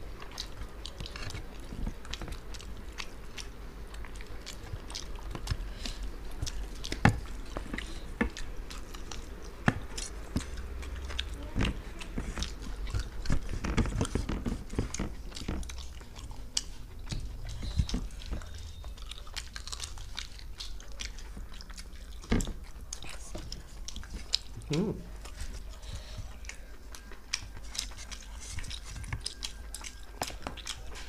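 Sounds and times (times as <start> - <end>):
people chewing and biting: 0.0 - 31.0.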